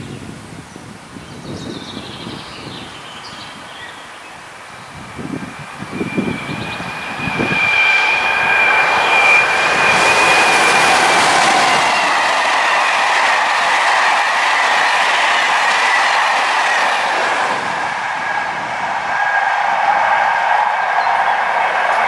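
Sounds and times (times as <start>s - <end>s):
train wheels rushing on rail: 0.8s - 22.0s.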